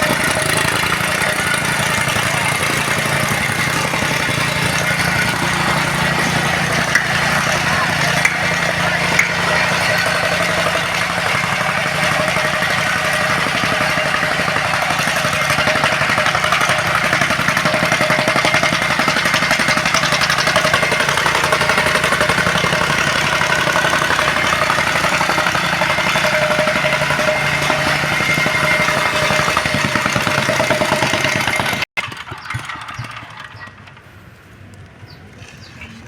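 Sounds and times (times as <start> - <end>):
tamping rammer pounding: 0.0 - 34.0.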